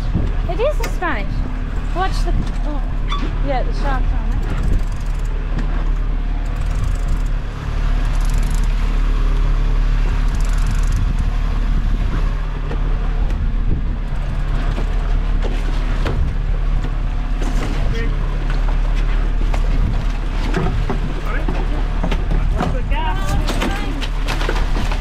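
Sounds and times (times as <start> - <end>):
boat engine running: 0.0 - 25.0
water rushing over hull: 0.0 - 25.0.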